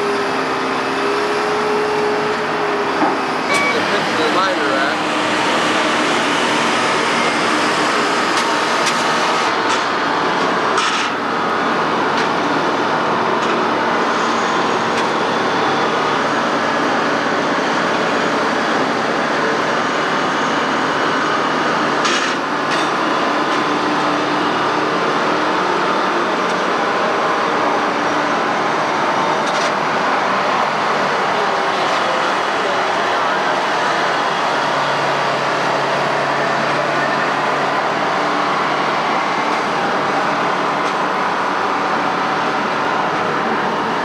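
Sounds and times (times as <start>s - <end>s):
heavy machinery running: 0.0s - 44.0s.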